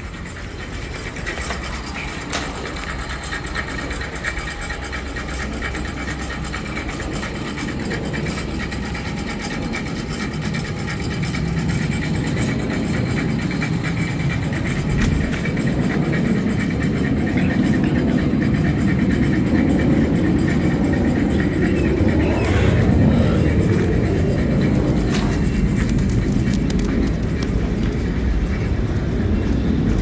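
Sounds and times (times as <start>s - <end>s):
machinery rattling over low hum: 0.0s - 30.0s.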